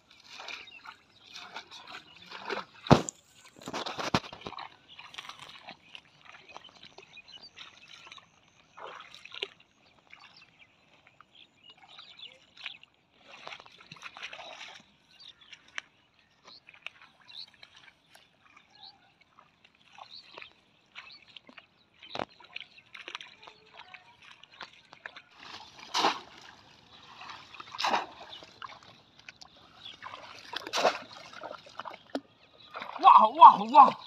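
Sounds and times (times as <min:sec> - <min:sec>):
footsteps splashing through shallow water: 0:00.0 - 0:34.0.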